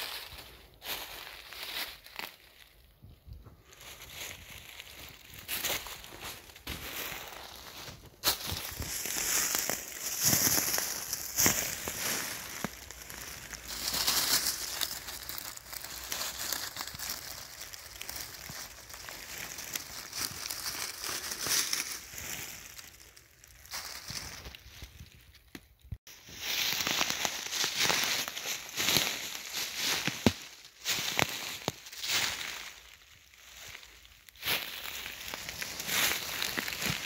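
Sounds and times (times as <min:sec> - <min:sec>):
dry leaves crunching underfoot: 0:00.0 - 0:37.0.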